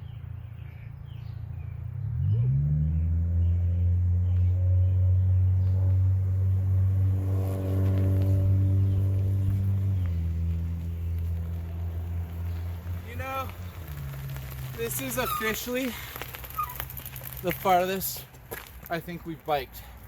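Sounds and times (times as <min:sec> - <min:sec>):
engine hum: 0:00.0 - 0:20.0.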